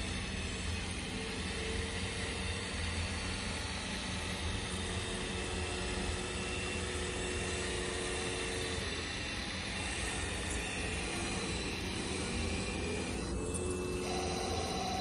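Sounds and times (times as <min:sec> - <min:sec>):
electric motors and pump whine: 0:00.0 - 0:15.0.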